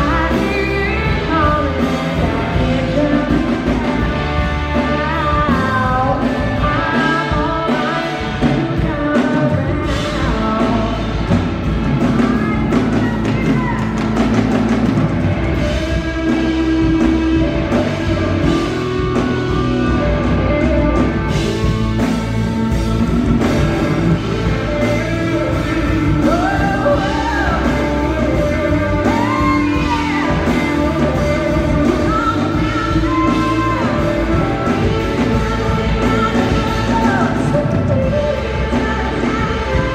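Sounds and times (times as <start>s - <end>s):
woman singing: 0.0s - 14.8s, 15.4s - 39.9s
blues-rock band playing: 0.0s - 39.9s
drum kit: 0.0s - 39.9s
electric guitar: 0.0s - 39.9s.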